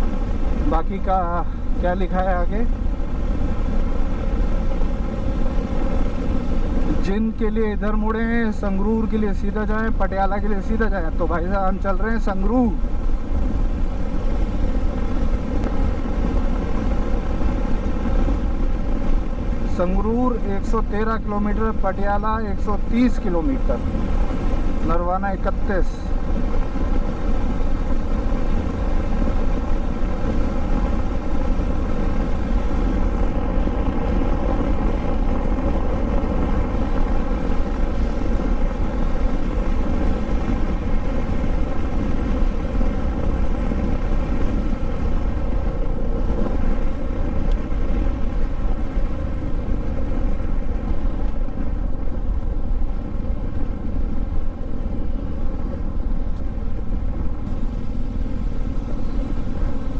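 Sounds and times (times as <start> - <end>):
motorcycle engine cruising: 0.0 - 59.9
wind and road rumble: 0.0 - 59.9.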